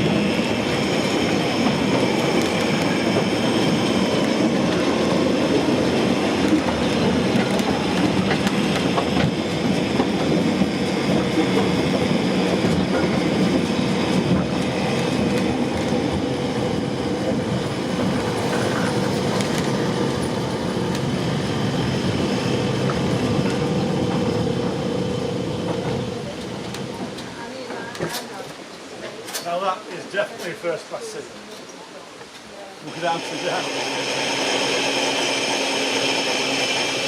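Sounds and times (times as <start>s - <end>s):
rail car wheels rumbling: 0.0s - 30.9s, 32.3s - 37.0s.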